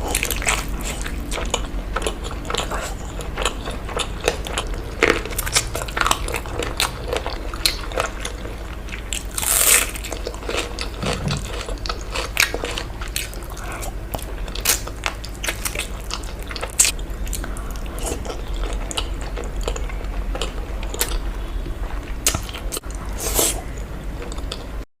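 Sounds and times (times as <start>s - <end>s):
person chewing crunchy food: 0.0s - 24.7s.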